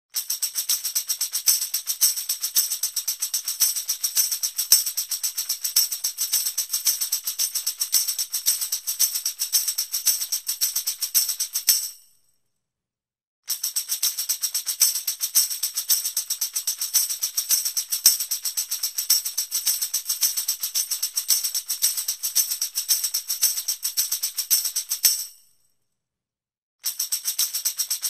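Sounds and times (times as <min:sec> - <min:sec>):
tambourine shaking: 0:00.1 - 0:12.2, 0:13.5 - 0:25.5, 0:26.8 - 0:28.0.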